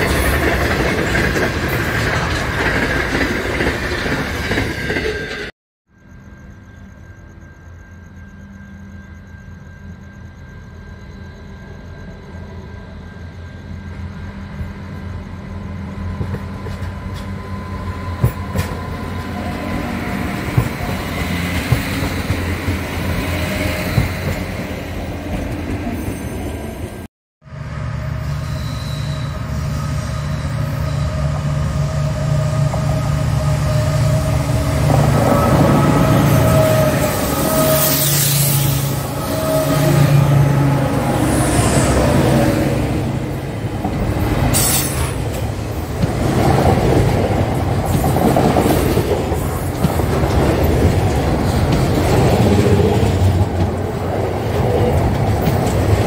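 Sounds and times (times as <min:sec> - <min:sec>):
diesel railcars passing: 0:00.0 - 0:05.5, 0:06.2 - 0:56.0
diesel locomotive engine: 0:00.0 - 0:56.0.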